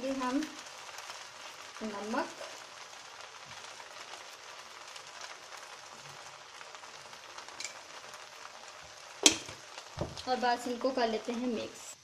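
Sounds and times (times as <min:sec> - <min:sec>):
rice sizzling in a pot: 0:00.0 - 0:12.0.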